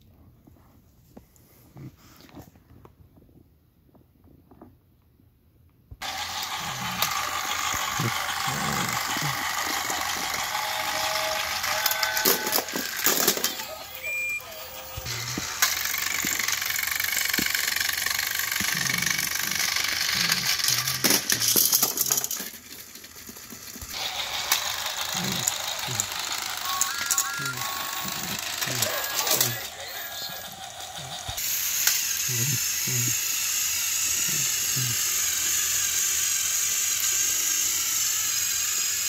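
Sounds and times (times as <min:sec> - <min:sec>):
toy train motors whirring: 0:06.0 - 0:39.0.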